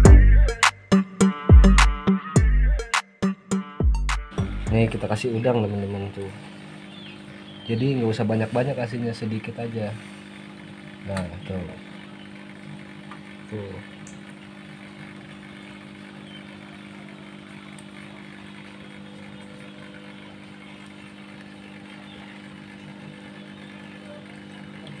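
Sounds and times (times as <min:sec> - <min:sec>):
low machine hum: 0:04.3 - 0:25.0.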